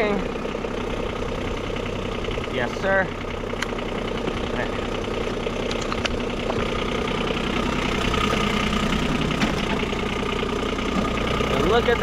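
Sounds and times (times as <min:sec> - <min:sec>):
small diesel engine idling: 0:00.0 - 0:12.0.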